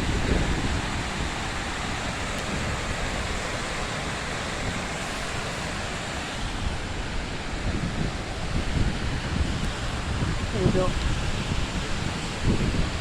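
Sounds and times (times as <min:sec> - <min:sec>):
river water rushing: 0:00.0 - 0:13.0
wind rumbling on microphone: 0:00.0 - 0:13.0.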